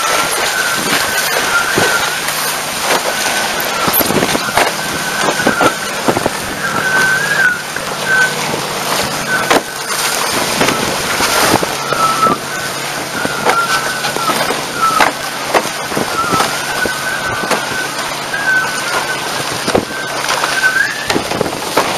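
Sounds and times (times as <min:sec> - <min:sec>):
high whistling tone: 0:00.0 - 0:08.4, 0:09.0 - 0:15.2, 0:15.8 - 0:21.3
spray splashing: 0:00.0 - 0:21.9
water slapping against hulls: 0:00.0 - 0:21.9
wind buffeting camera: 0:00.0 - 0:21.9.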